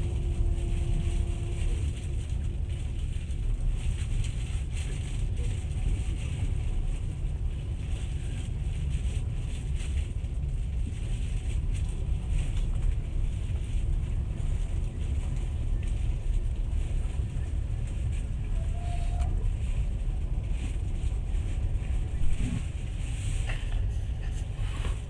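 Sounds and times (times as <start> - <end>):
train rumbling slowly: 0.0 - 25.0
wind buffeting microphone: 0.0 - 25.0.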